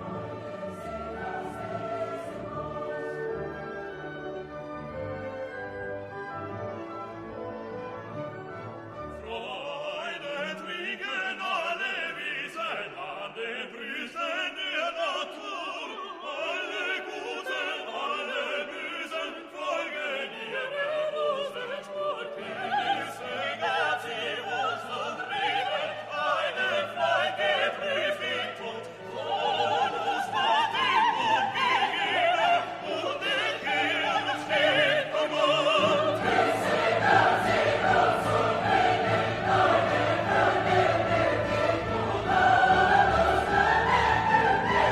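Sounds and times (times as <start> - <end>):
orchestra with singing voices: 0.0 - 44.9.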